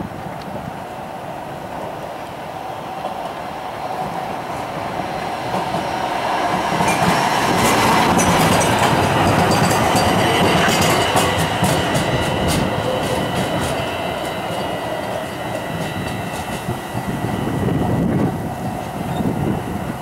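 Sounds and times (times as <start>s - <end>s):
light rail car passing: 0.0s - 20.0s
wheels clacking over rail joints: 3.0s - 19.3s.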